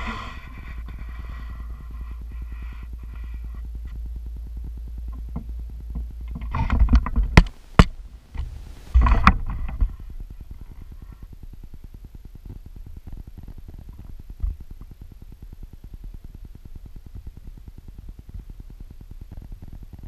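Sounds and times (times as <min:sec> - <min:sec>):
low microphone rumble: 0:00.0 - 0:20.0.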